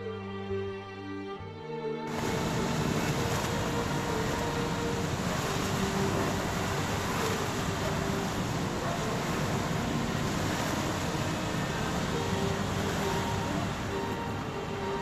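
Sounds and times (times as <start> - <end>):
floodwater rushing: 2.1 - 15.0.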